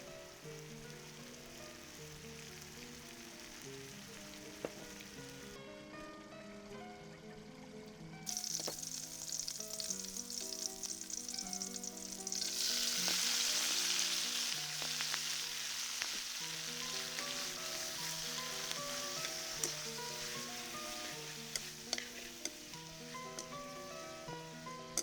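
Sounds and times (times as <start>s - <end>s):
eggplant sizzling in hot oil: 0.0s - 5.6s, 8.2s - 25.0s
soft melodic background music: 0.0s - 25.0s.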